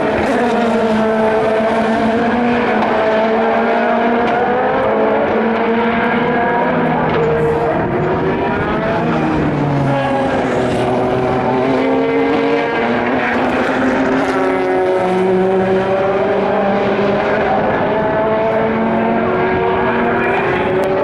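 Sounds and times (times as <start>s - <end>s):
race car engines changing gear: 0.0s - 21.0s.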